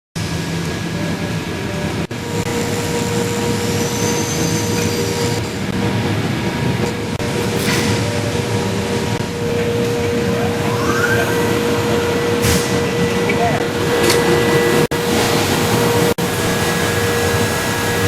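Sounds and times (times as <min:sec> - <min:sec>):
blast machine rushing noise: 0:00.3 - 0:18.0.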